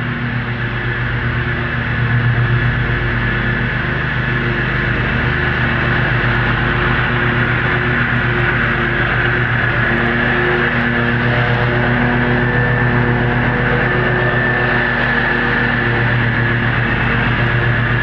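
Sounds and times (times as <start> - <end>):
high whine: 0.0 - 18.0
lawn mower engine running: 0.0 - 18.0.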